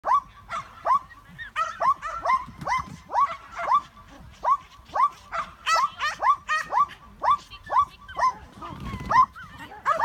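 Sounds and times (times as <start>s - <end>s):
dog barking excitedly: 0.0s - 10.0s.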